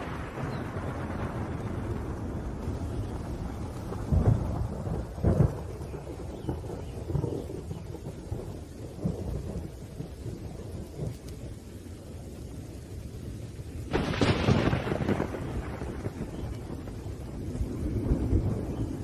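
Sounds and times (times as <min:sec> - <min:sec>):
sharp thunderclap: 0:00.0 - 0:11.5, 0:13.9 - 0:19.0
rain: 0:00.0 - 0:19.0
thunder rolling: 0:00.0 - 0:19.0.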